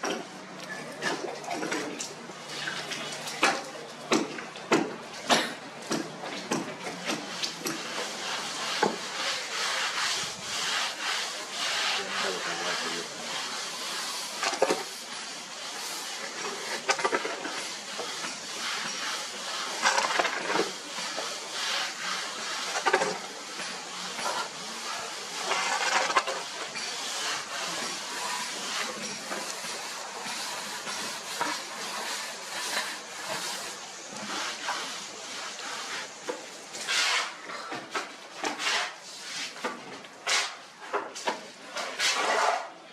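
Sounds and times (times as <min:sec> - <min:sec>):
tools scraping plaster on brick: 0:00.0 - 0:42.8.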